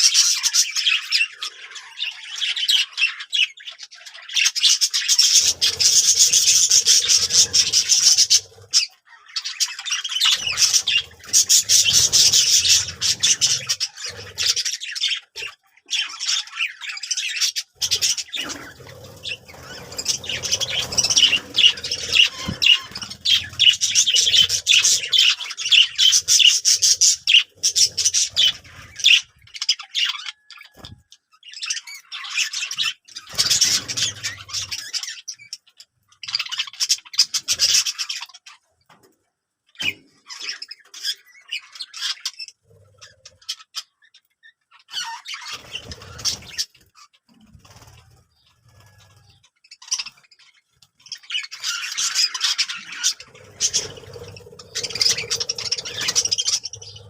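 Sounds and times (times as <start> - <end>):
birds chirping and squawking: 0.0 - 57.0.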